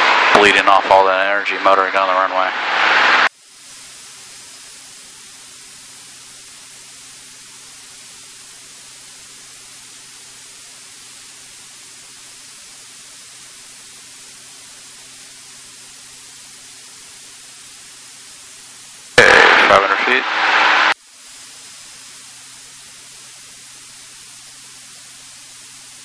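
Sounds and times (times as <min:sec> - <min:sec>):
intercom line hiss: 0:00.0 - 0:09.9, 0:11.3 - 0:26.0.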